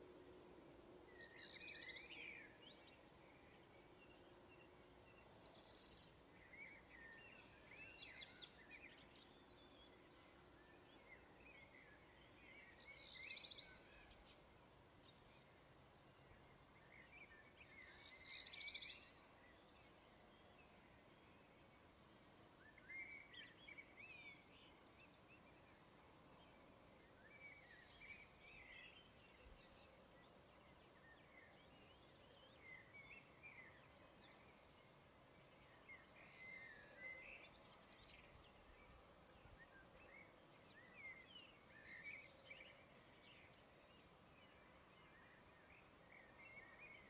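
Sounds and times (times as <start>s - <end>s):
faint birdsong: 0.0s - 47.0s
low steady background hiss: 0.0s - 47.0s.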